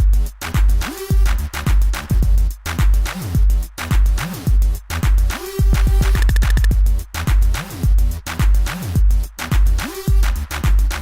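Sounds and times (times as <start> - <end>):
electronic dance music: 0.0 - 11.0
heavy bass kick: 0.0 - 11.0.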